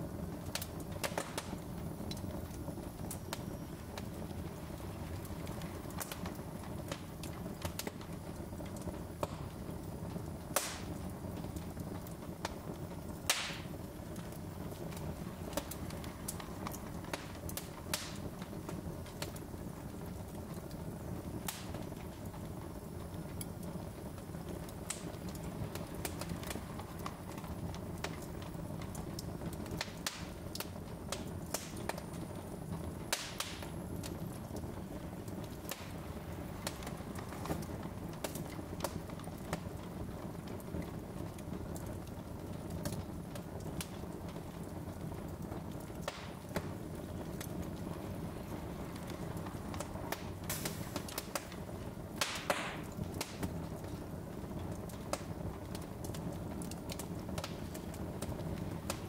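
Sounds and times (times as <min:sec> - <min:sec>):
fire crackling and popping: 0:00.0 - 0:59.0
fire rushing: 0:00.0 - 0:59.0.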